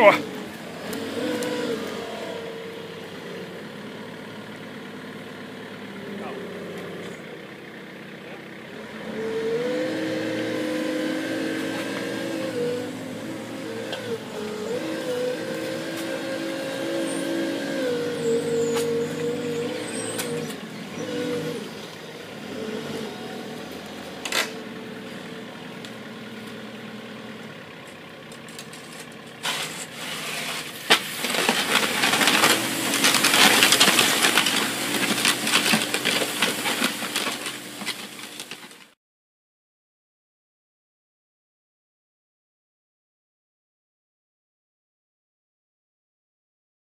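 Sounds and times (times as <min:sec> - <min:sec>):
loader engine running under load: 0:00.0 - 0:39.0.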